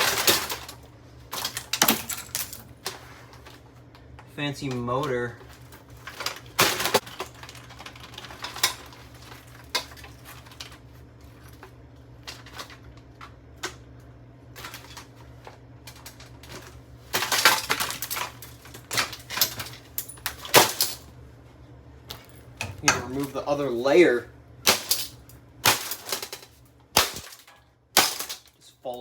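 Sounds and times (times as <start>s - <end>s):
plastic fan parts clicking and clattering: 0.0s - 21.1s, 24.6s - 29.0s.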